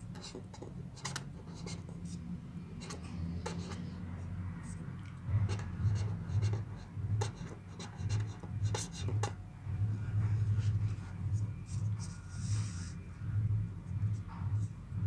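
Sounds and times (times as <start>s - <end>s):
marker pen scratching on paper: 0.0s - 9.4s, 10.0s - 14.8s
low pulsing hum: 0.0s - 15.0s.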